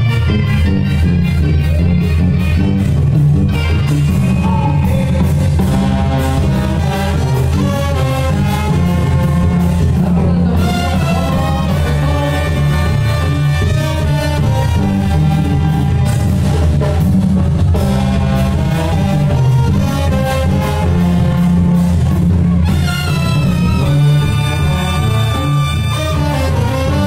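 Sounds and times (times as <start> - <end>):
brass band playing: 0.0 - 27.0.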